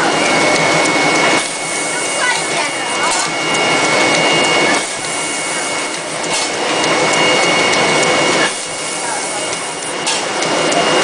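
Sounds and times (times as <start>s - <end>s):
factory machinery whirring: 0.0s - 11.0s
high constant whine: 0.0s - 11.0s.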